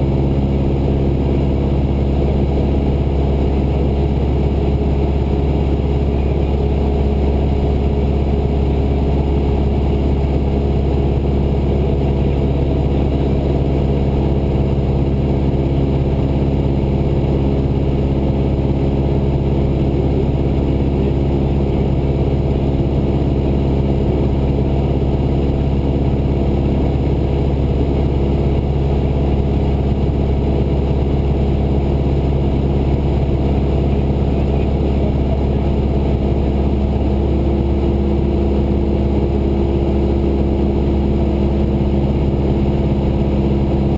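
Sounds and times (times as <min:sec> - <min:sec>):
small plane engine drone: 0:00.0 - 0:43.9.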